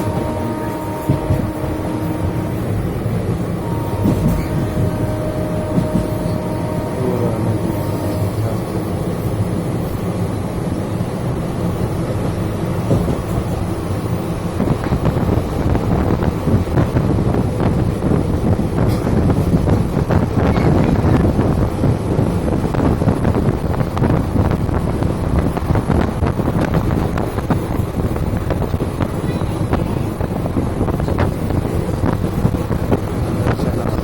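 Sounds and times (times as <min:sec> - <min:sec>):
train rattling and clicking: 0:00.0 - 0:34.0
train rumbling over bridge: 0:00.0 - 0:34.0.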